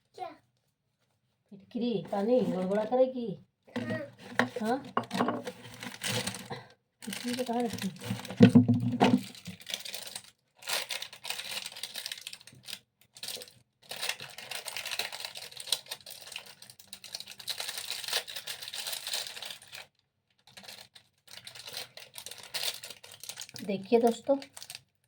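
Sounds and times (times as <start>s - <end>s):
wrappers rustling and clicking: 4.2s - 25.0s.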